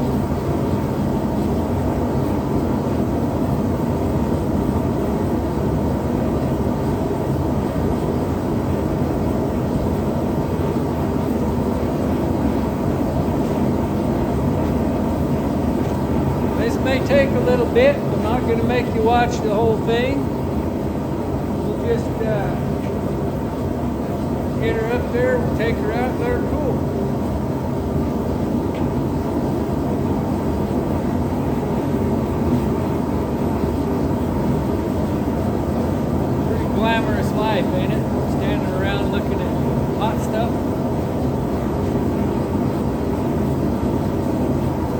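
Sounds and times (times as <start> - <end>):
forge burner rushing: 0.0 - 44.9.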